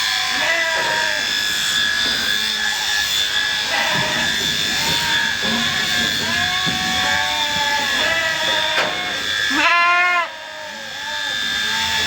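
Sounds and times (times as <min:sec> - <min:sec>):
sheep bleating: 0:00.0 - 0:01.3, 0:03.6 - 0:12.0
electric clippers whining: 0:00.0 - 0:12.0.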